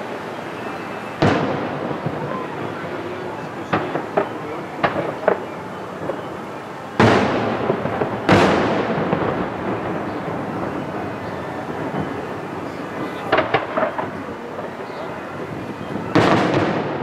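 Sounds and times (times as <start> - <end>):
crackling fireworks pops: 0.0 - 17.0
fireworks booms with echoing rumble: 0.9 - 17.0.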